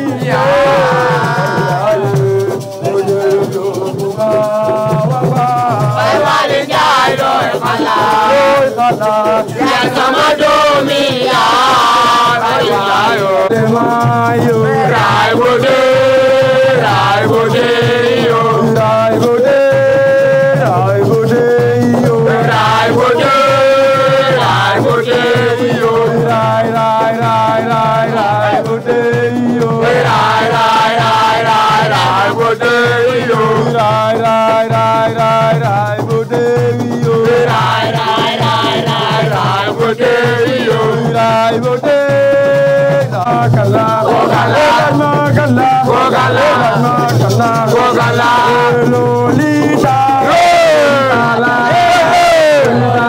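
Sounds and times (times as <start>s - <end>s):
person singing: 0.0s - 53.0s
shaker rattle: 0.0s - 53.0s.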